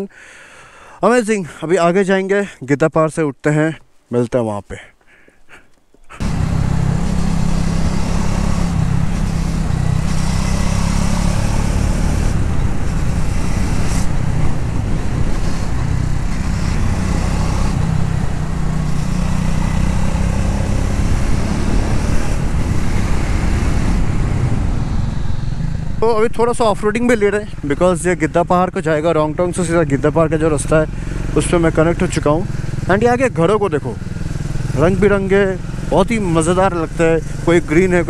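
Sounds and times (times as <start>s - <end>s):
motorcycle engine running: 6.2s - 38.0s
steady rushing noise: 6.2s - 38.0s.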